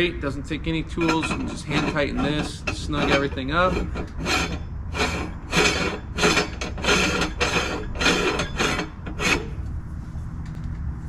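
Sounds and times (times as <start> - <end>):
metal threads rasping while screwed: 0.0 - 9.6.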